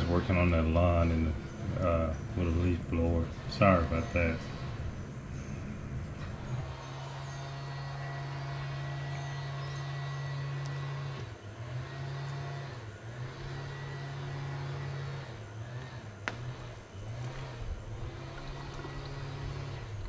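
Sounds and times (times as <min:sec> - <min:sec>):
leaf blower engine running: 0:00.0 - 0:20.0.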